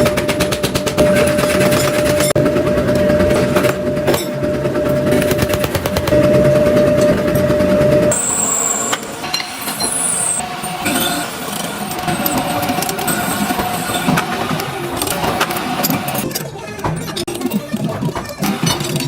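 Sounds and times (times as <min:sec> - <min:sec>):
high whine: 0:00.0 - 0:16.2
steady machine hum: 0:00.0 - 0:16.3
machinery rapid repeated strikes: 0:00.0 - 0:16.4.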